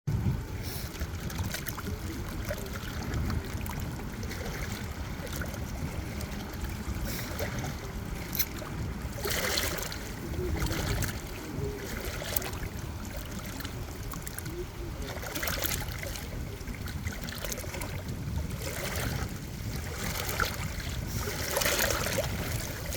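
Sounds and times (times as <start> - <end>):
water lapping and splashing: 0.1 - 22.9
wind rumble on microphone: 0.1 - 22.9.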